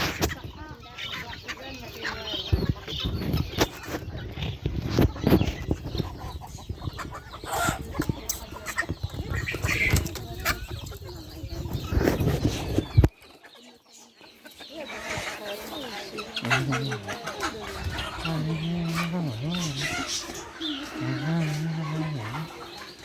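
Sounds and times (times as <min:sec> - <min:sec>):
bird calls: 0:00.0 - 0:23.0.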